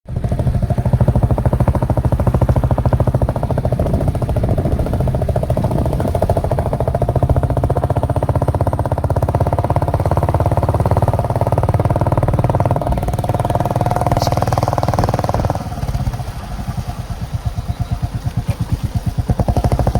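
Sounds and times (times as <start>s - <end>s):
single-cylinder engine running: 0.1s - 19.9s.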